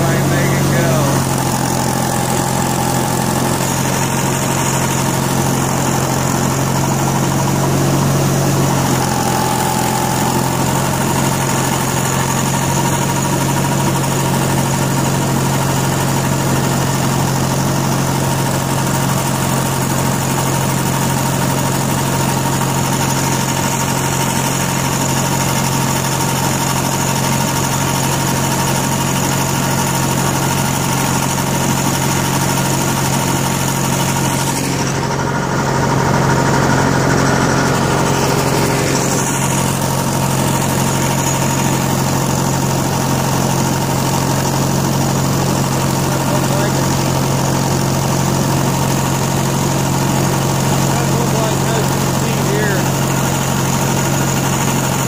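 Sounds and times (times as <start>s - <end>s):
garden tractor engine running: 0.0s - 55.0s
snowblower high whine: 0.0s - 55.0s.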